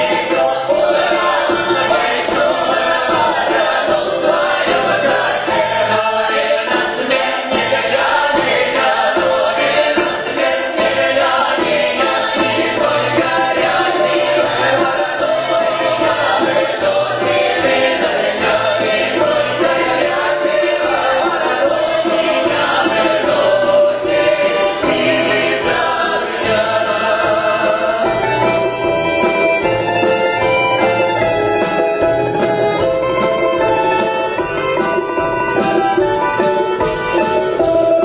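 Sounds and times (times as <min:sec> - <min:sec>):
mixed choir singing folk song: 0:00.0 - 0:38.0
small band accompanying: 0:00.0 - 0:38.0.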